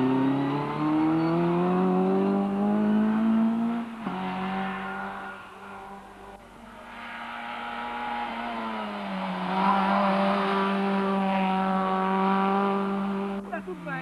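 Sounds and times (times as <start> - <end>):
rally car engine running hard: 0.0 - 14.0.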